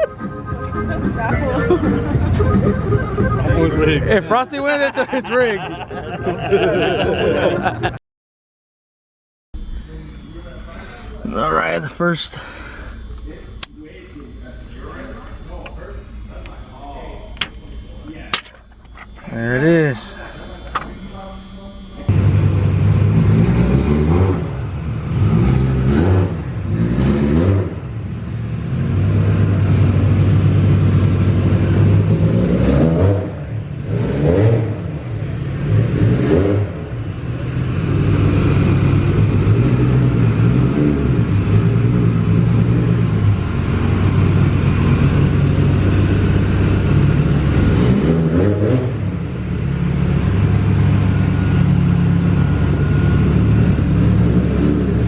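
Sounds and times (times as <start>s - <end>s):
car engine revving and idling: 9.6s - 55.0s.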